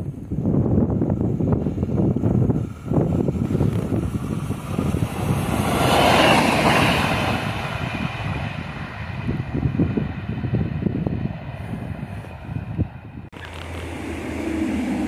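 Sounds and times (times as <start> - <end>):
train passing at speed: 0.0 - 15.0
wind noise on microphone: 0.0 - 15.0.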